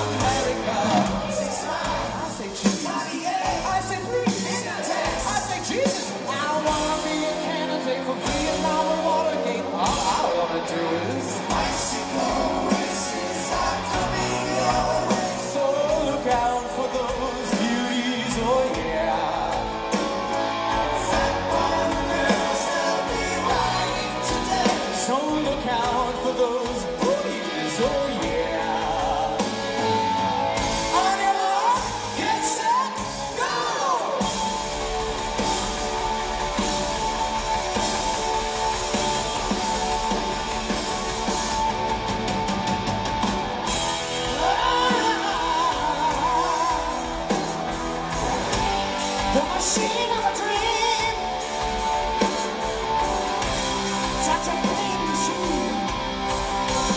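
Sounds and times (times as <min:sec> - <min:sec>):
man singing lead: 0:00.0 - 0:35.5, 0:43.7 - 0:56.9
live rock band in arena: 0:00.0 - 0:56.9.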